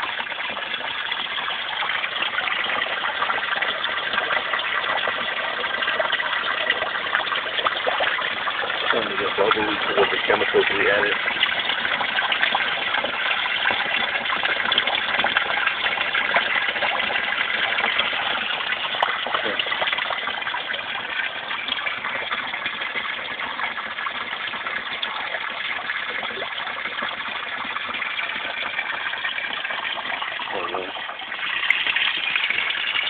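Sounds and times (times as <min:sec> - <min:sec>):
waterfall splashing into pond: 0:00.0 - 0:33.0.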